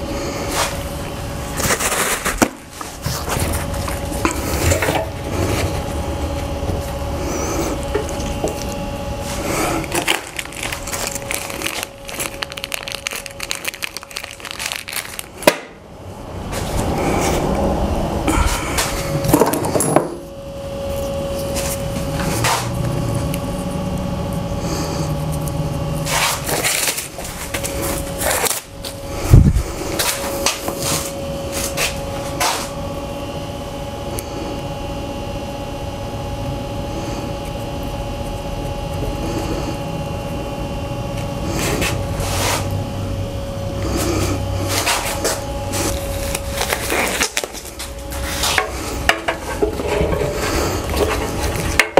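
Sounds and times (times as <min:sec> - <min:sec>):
fan or motor humming: 0:00.0 - 0:51.9.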